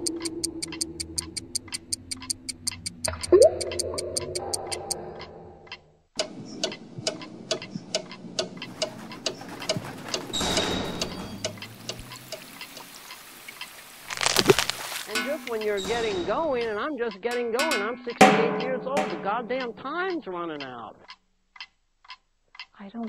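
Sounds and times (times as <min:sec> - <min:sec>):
clock ticking: 0:00.0 - 0:14.3, 0:15.1 - 0:23.0.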